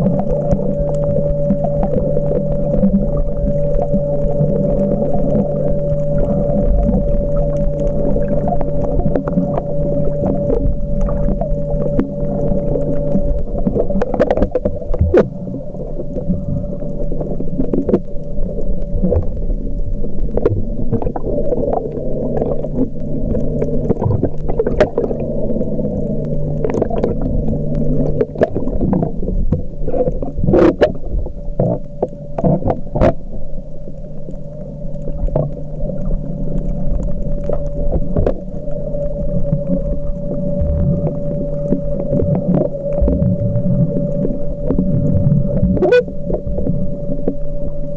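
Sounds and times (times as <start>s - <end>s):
muffled underwater hum: 0.0s - 47.9s
sharp clicks and crackles: 0.0s - 47.9s.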